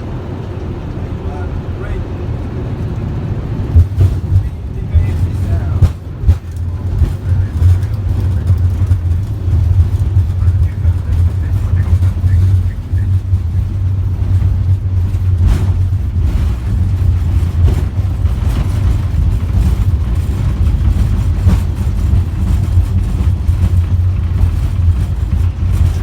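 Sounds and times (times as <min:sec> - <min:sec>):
airliner rolling on runway: 0:00.0 - 0:26.0.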